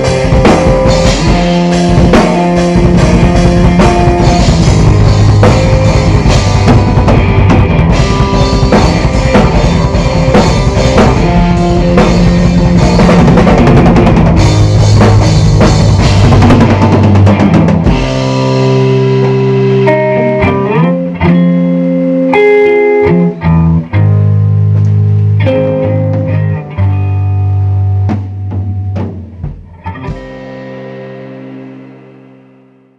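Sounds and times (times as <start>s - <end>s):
drum kit: 0.0s - 32.2s
electric guitar: 0.0s - 32.9s.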